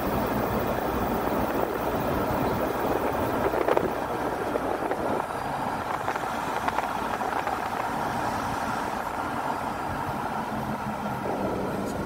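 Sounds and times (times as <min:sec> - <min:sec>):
car road noise from inside: 0:00.0 - 0:12.0.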